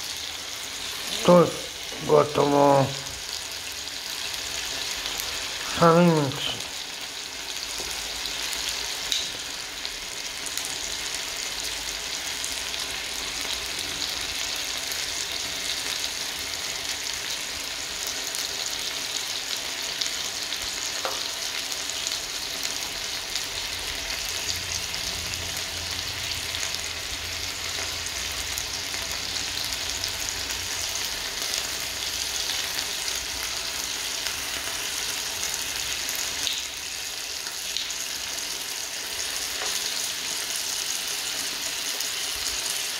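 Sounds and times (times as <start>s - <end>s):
chicken wings sizzling in oil: 0.0s - 42.9s.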